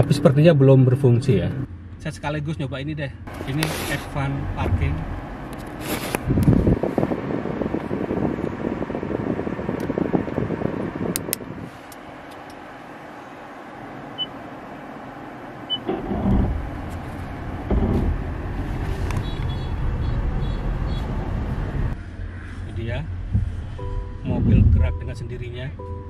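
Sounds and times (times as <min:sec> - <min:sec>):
electric car low rumble: 0:03.1 - 0:26.0.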